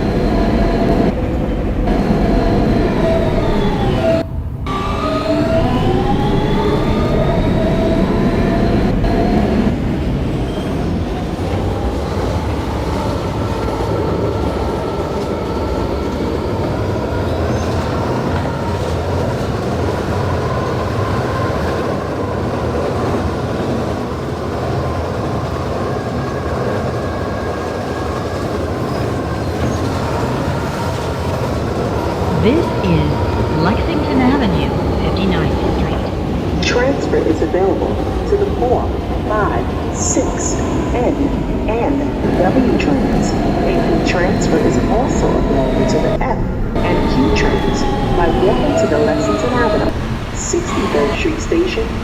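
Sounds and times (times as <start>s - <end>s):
subway motor whine: 0.0s - 52.0s
wheels rumbling on rail: 0.0s - 52.0s.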